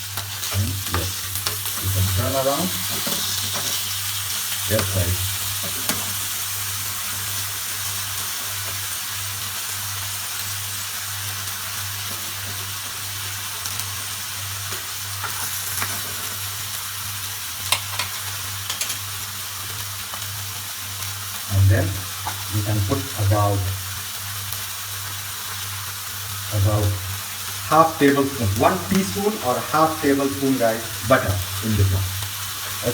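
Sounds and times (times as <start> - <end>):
fish sizzling in hot oil: 0.0 - 32.9.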